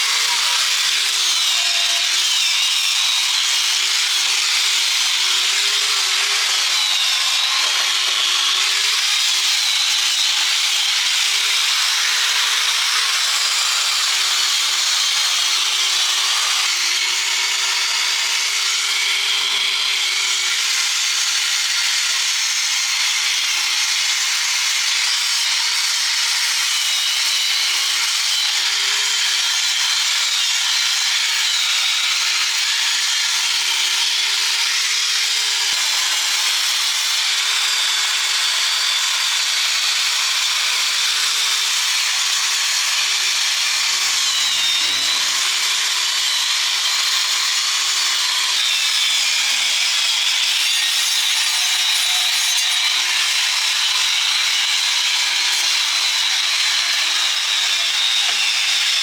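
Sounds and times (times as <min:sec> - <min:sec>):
power tool grinding metal: 0:00.0 - 0:59.0.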